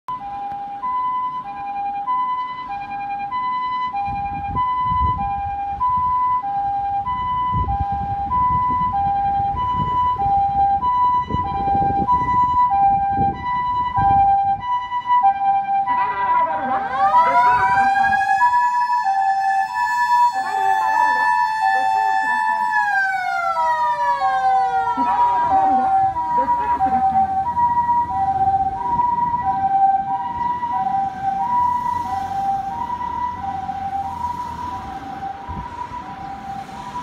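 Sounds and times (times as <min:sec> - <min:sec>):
motor siren wailing: 0:00.1 - 0:37.0
two-tone electronic siren: 0:00.1 - 0:37.0.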